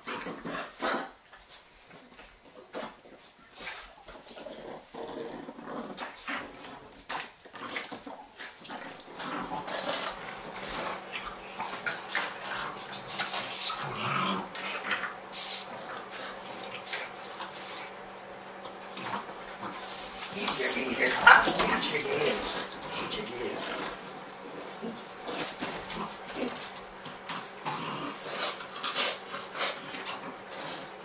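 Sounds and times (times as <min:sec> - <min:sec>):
dogs playing tug-of-war: 0:00.0 - 0:31.0.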